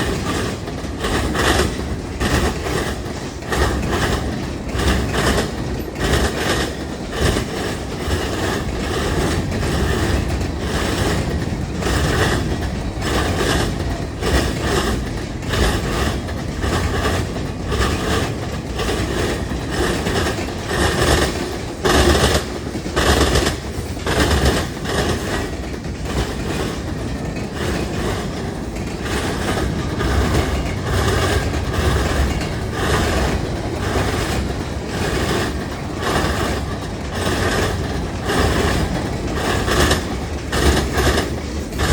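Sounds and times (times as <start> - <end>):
low train rumble: 0.0 - 41.9
train wheels clattering on rails: 0.0 - 41.9.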